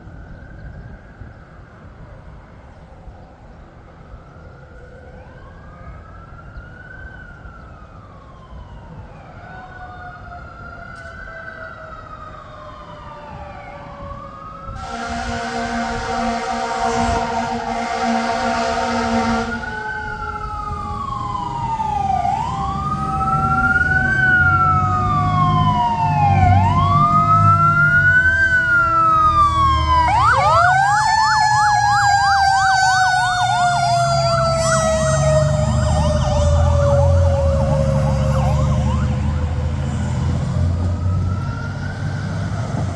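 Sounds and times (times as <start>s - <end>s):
fire truck siren wailing: 0.0s - 42.9s
truck engines rumbling: 1.2s - 42.9s
second siren falling tone: 6.4s - 42.9s.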